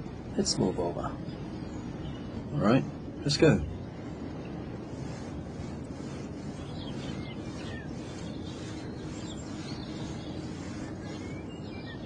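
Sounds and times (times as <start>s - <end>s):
birds chirping: 0.0s - 12.0s
low background rumble: 0.0s - 12.0s.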